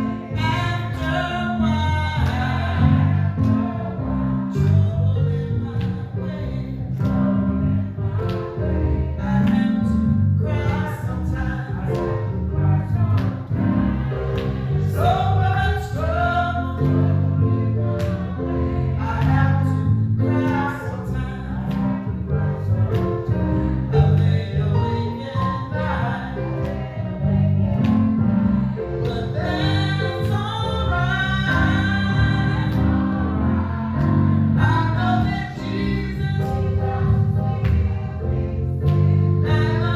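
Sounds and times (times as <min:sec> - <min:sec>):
gospel choir singing: 0:00.0 - 0:39.9
instrumental accompaniment with bass: 0:00.0 - 0:39.9.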